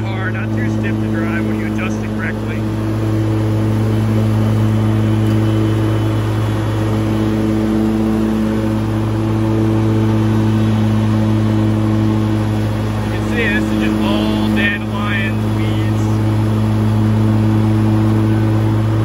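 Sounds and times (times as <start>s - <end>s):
lawn mower engine and blades: 0.0s - 19.0s.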